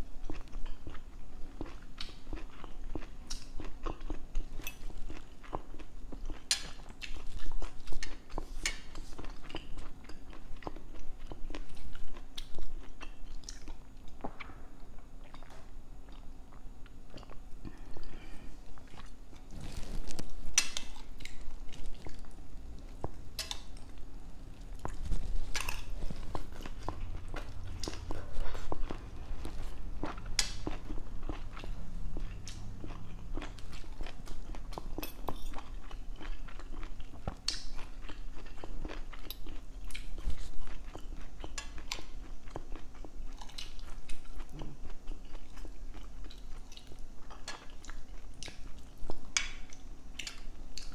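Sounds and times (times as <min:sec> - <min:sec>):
person chewing food: 0:00.1 - 0:50.9.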